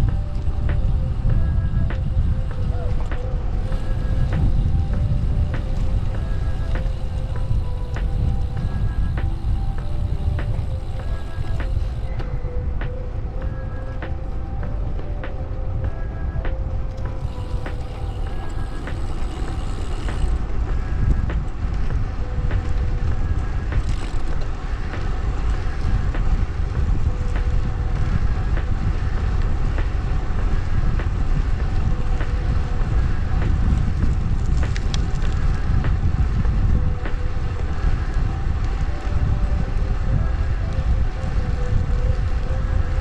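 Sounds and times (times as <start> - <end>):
bicycle rolling rumble: 0.0 - 43.0
wind buffeting microphone: 0.0 - 43.0.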